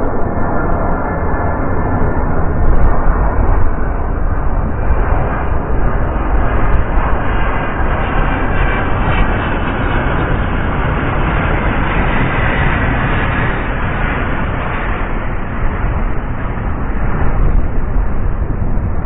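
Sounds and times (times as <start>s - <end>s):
jet engines passing overhead: 0.0s - 19.0s.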